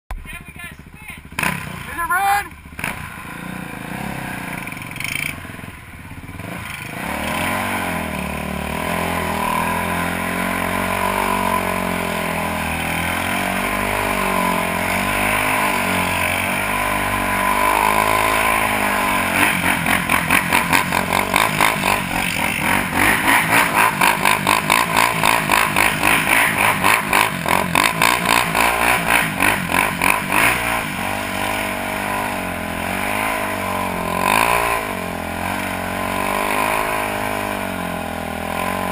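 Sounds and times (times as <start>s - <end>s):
quad engines revving: 0.5s - 38.9s.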